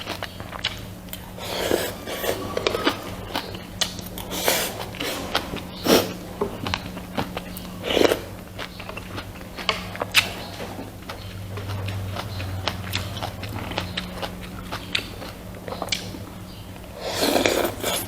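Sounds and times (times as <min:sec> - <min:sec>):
person chewing food: 0:00.0 - 0:18.0
steady low hum: 0:00.0 - 0:18.0.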